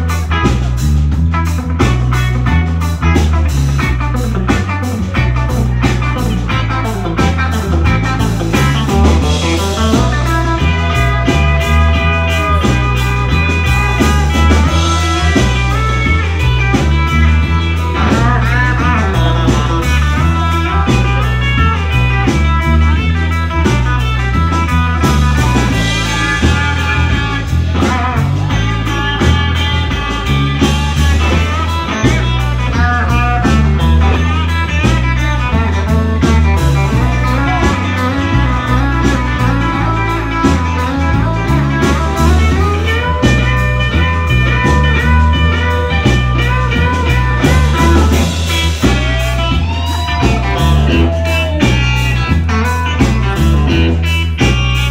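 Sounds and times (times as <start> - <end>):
blues band playing: 0.0 - 54.9
electric guitar lead: 0.0 - 54.9.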